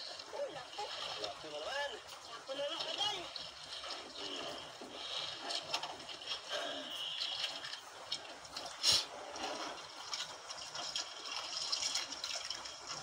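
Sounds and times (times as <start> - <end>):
water sloshing against boat hull: 0.0 - 13.0.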